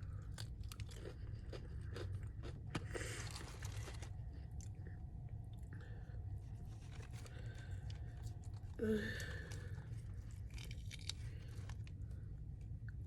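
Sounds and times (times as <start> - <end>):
soft chewing: 0.0 - 13.0
steady low hum: 0.0 - 13.0
crunching fried chicken: 0.1 - 4.8, 6.6 - 12.4.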